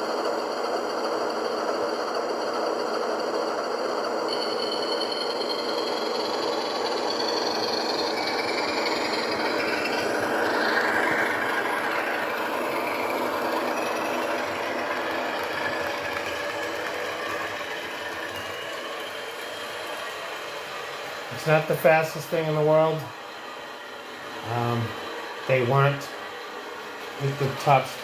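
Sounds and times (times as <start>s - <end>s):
model train motor whirring: 0.0s - 28.0s.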